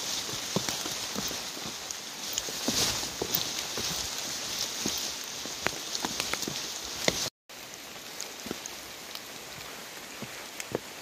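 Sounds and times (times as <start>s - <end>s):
rain drops ticking: 0.0s - 11.0s
rain falling: 0.0s - 11.0s.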